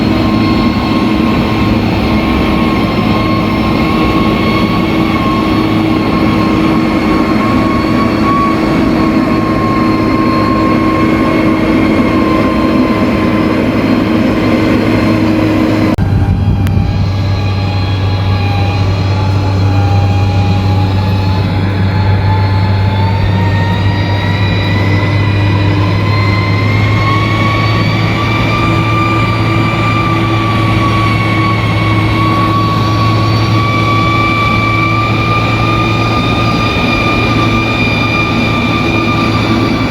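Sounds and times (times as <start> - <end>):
bulldozer diesel engine: 0.0 - 39.9
high whine: 0.0 - 39.9.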